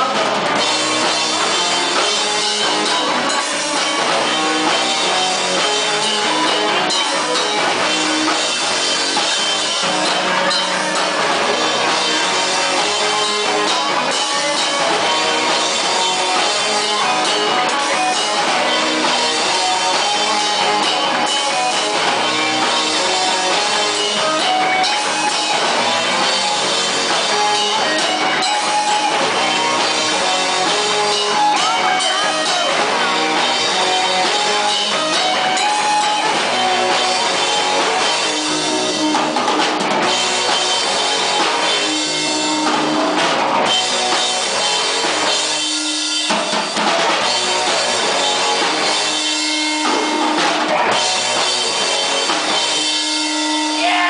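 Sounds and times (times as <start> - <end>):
live rock band: 0.0 - 54.0.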